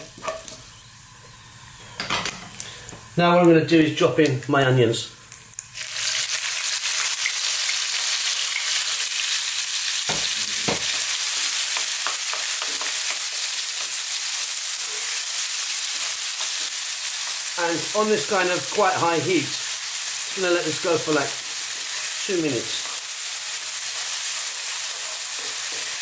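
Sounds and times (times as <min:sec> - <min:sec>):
onions sizzling in hot oil: 0:00.0 - 0:03.2, 0:05.2 - 0:26.0.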